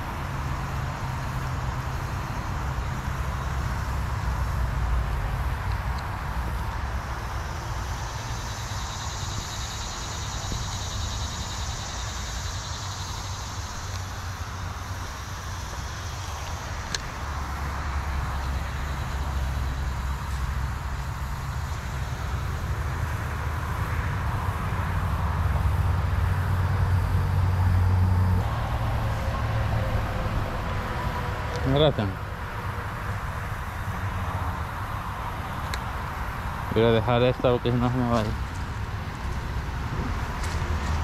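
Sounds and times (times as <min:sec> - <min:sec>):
distant road traffic rumble: 0:00.0 - 0:41.0.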